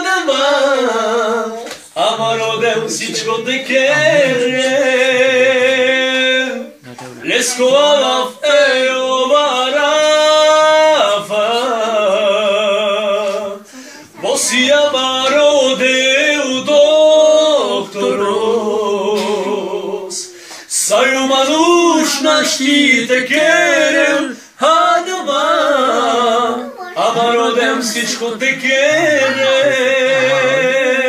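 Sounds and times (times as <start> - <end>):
man singing a cappella: 0.0 - 31.0.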